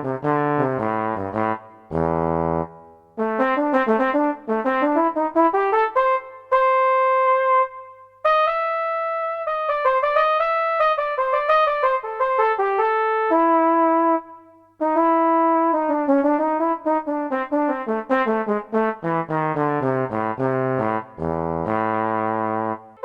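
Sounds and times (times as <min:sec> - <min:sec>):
saxophone melody: 0:00.0 - 0:23.0.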